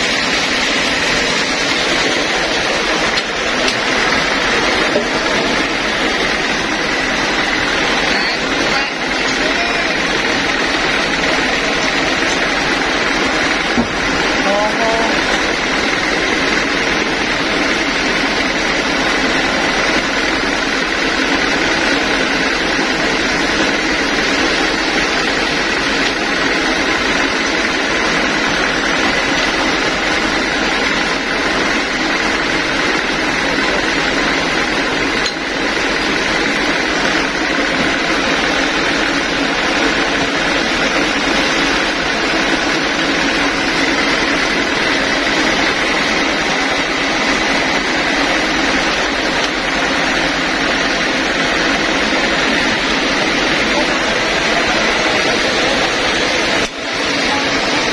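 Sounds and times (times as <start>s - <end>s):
sawmill machinery running: 0.0s - 57.9s
steady high whine: 0.0s - 57.9s.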